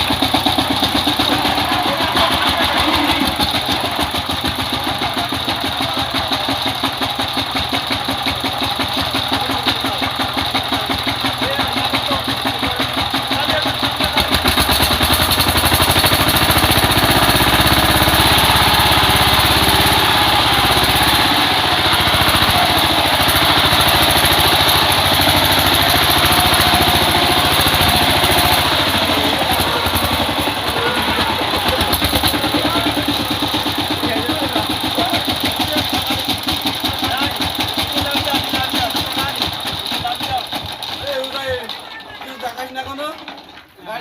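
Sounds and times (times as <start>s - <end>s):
power tiller engine running: 0.0s - 44.0s.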